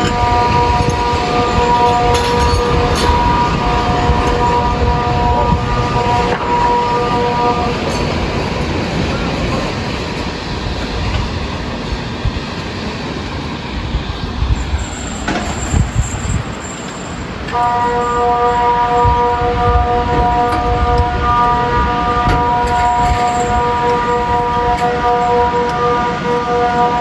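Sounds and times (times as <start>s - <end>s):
loud steady rushing noise: 0.0s - 22.8s.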